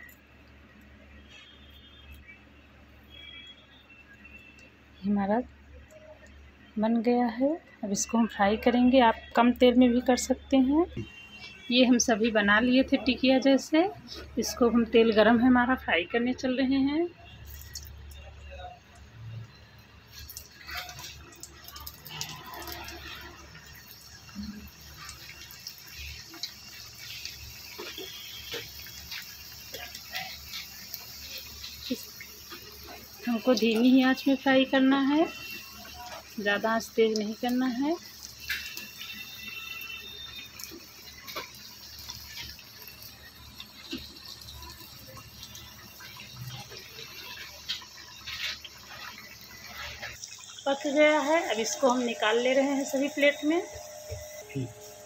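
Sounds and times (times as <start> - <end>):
patties deep-frying in oil: 0.0 - 55.0.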